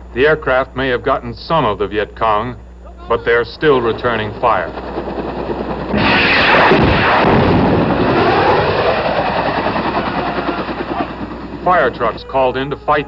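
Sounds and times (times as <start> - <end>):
helicopter passing low overhead: 0.0 - 13.0.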